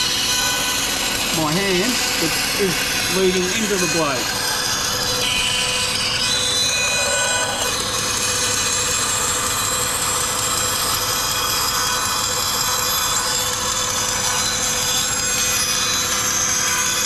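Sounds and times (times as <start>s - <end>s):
bandsaw cutting wood: 0.0s - 17.0s.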